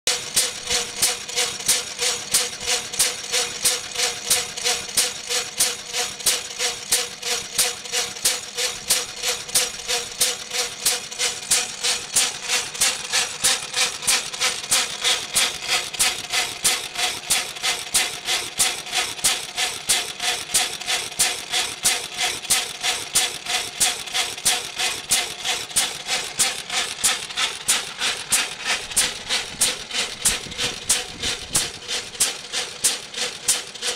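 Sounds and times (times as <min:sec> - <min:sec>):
stationary engine running: 0:00.0 - 0:33.9.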